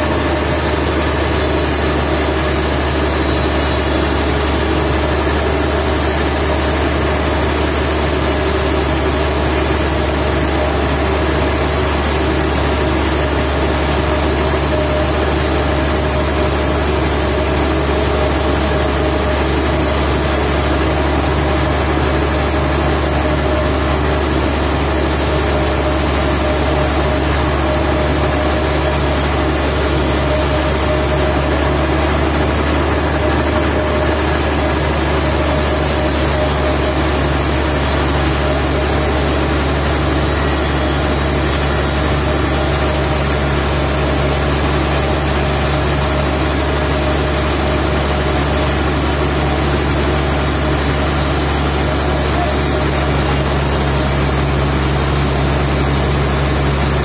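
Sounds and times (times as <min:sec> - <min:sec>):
low engine drone: 0:00.0 - 0:57.0
steady machine hum: 0:00.0 - 0:57.0.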